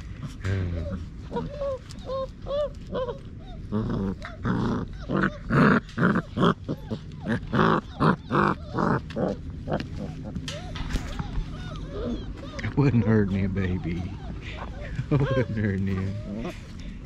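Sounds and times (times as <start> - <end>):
puppies play growling: 0.0 - 17.0
puppies whimpering: 0.0 - 17.0.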